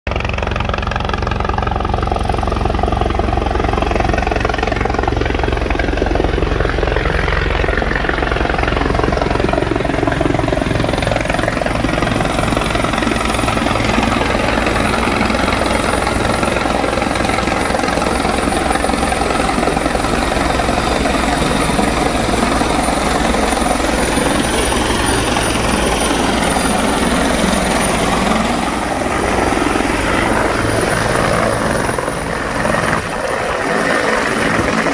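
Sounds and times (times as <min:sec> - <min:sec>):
helicopter engine noise: 0:00.1 - 0:34.9
helicopter rotor beating: 0:00.1 - 0:34.9.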